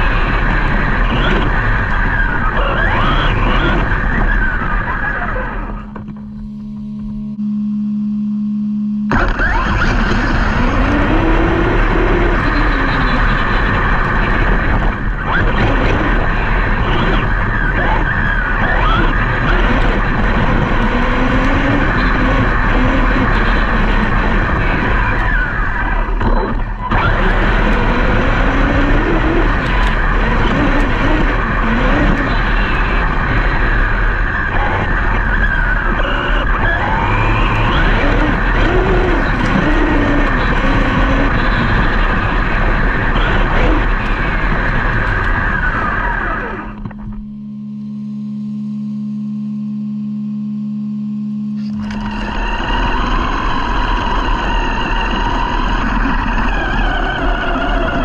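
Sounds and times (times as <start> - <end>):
rumble of wheels on ground: 0.0 - 7.4, 9.1 - 47.4, 51.6 - 58.0
electric motors whining: 0.0 - 58.0.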